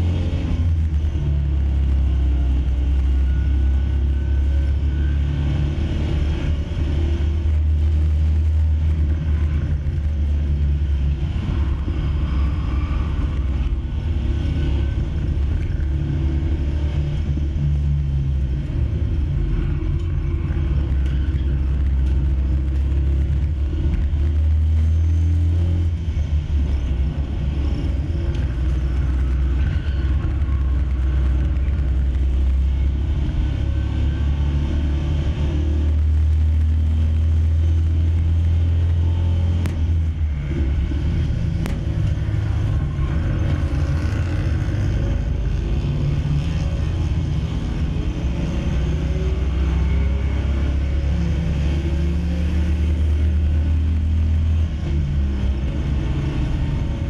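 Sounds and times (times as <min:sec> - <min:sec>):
car engine droning: 0:00.0 - 0:57.0
road and wind noise: 0:00.0 - 0:57.0.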